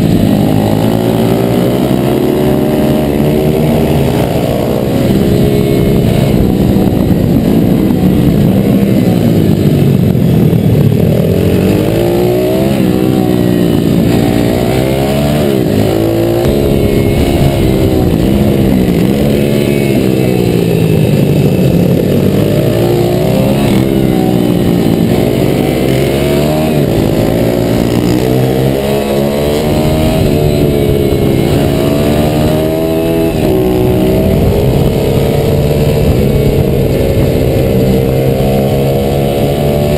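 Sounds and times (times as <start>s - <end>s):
motorbike engine revving: 0.0s - 39.9s
wind rushing on microphone: 0.0s - 39.9s.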